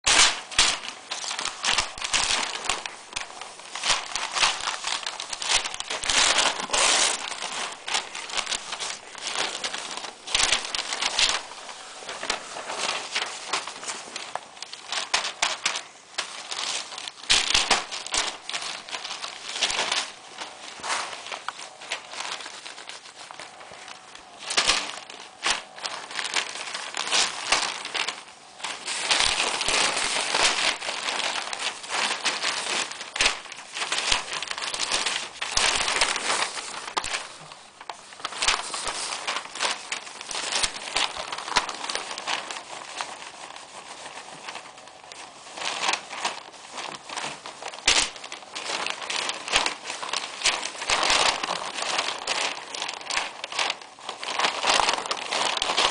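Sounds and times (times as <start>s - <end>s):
newspaper rustling and crackling: 0.0s - 55.9s.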